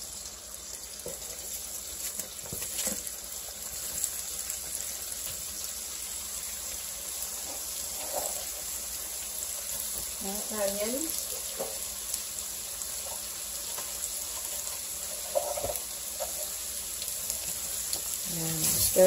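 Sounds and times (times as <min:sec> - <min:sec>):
bacon sizzling: 0:00.0 - 0:19.0.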